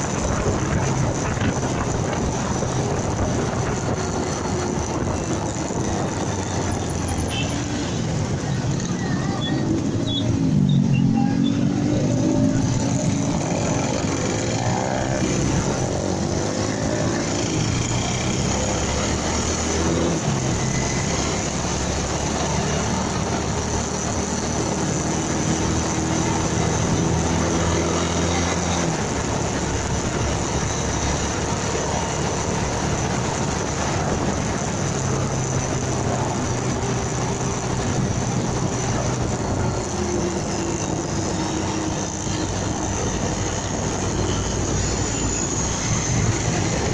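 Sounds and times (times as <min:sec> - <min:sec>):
motorcycle engine running: 0:00.0 - 0:46.9
wind and road noise: 0:00.0 - 0:46.9.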